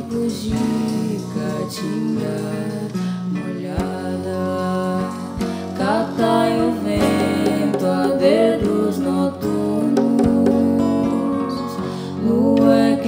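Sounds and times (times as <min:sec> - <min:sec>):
plucked guitar ringing notes: 0:00.0 - 0:13.0.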